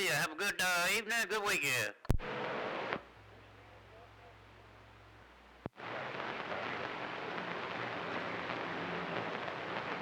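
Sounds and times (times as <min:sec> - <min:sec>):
harsh hiss of garbled radio audio: 0:00.0 - 0:04.9, 0:05.7 - 0:10.0.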